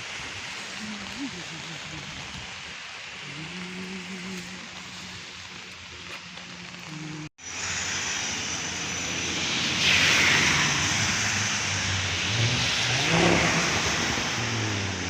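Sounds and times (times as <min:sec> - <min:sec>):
tyres hissing on wet road: 0:00.0 - 0:15.0
vehicle engines: 0:00.0 - 0:15.0.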